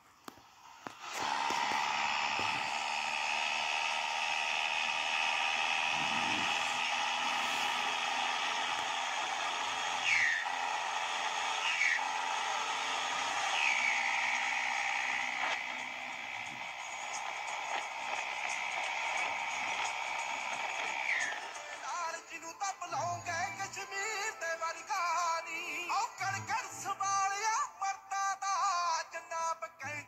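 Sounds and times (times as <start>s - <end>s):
steady high whine: 0.0s - 24.1s
tractor engine running: 0.0s - 26.8s.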